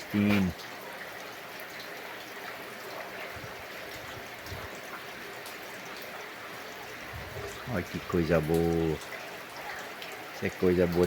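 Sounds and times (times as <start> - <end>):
drops from a roof leak: 0.0 - 11.0
rain falling: 0.0 - 11.0
water trickling: 0.0 - 11.0.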